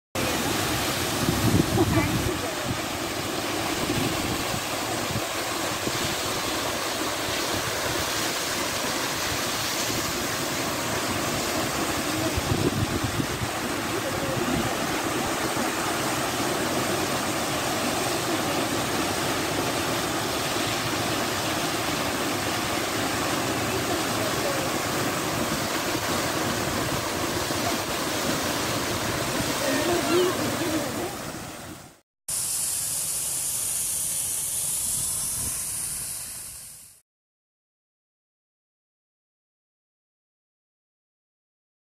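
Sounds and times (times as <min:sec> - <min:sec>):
waterfall rushing into pool: 0:00.2 - 0:37.0.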